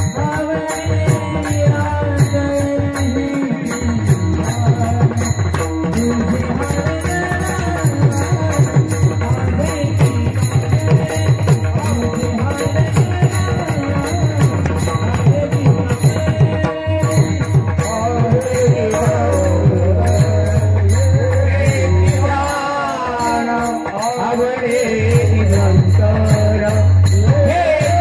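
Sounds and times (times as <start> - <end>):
hand cymbals ringing: 0.0 - 28.0.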